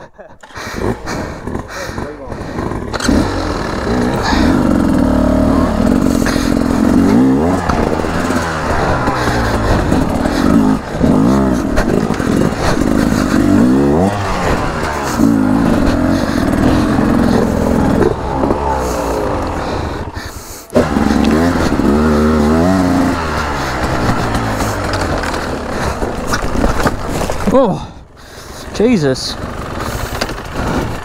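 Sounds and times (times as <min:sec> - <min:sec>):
two-stroke motorbike engine revving: 0:00.4 - 0:31.0.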